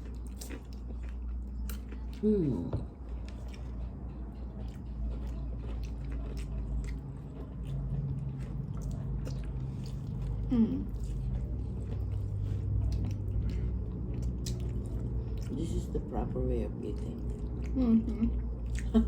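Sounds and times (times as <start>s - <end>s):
chewing fried chicken crunches: 0.0s - 15.6s.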